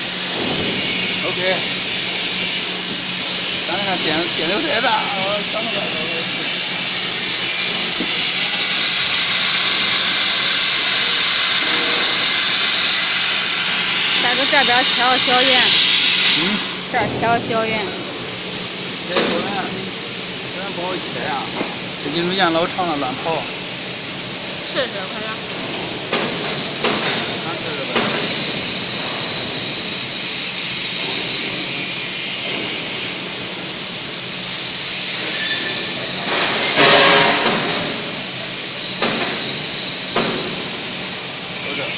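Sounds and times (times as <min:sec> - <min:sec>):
plasma cutter hissing and whining: 0:00.0 - 0:41.9.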